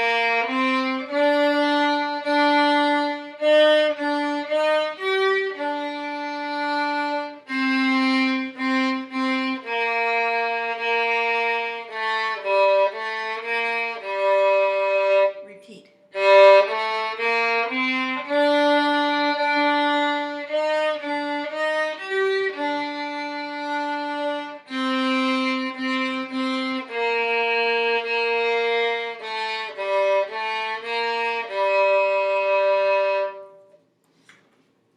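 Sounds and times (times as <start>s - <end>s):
solo violin melody: 0.0s - 15.4s, 16.1s - 33.8s.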